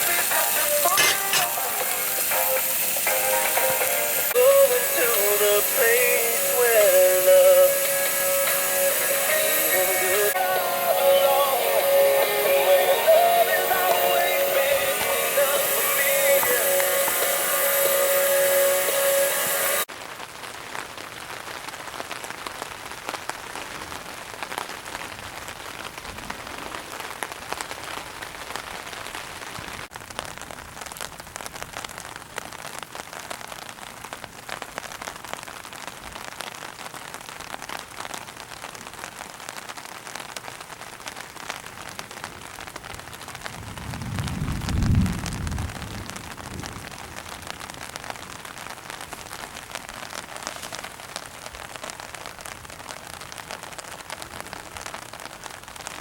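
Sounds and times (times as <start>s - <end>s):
rain pattering on surfaces: 0.0s - 10.6s, 11.3s - 56.0s.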